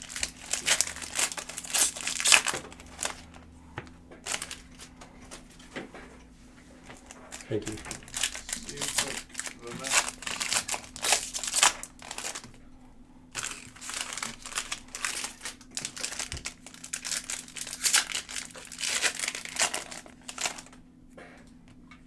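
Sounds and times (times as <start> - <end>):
plastic wrappers crinkling: 0.0 - 3.5, 4.2 - 5.6, 6.8 - 12.6, 13.3 - 20.8.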